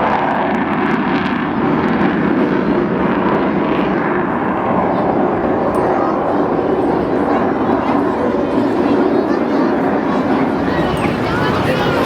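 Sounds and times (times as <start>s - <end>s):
jet engines in flight: 0.0s - 12.0s.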